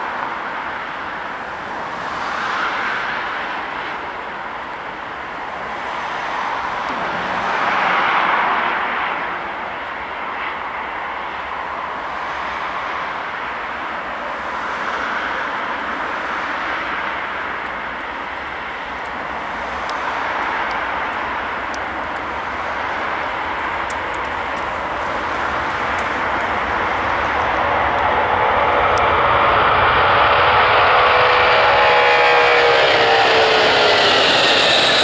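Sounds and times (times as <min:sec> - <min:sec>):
jet engines running loud: 0:00.0 - 0:35.0.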